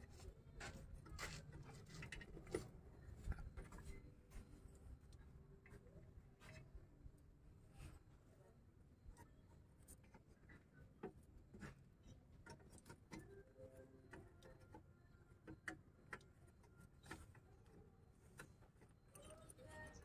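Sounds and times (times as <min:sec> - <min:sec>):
faint clicks and rubbing: 0:00.0 - 0:06.9, 0:09.1 - 0:20.0.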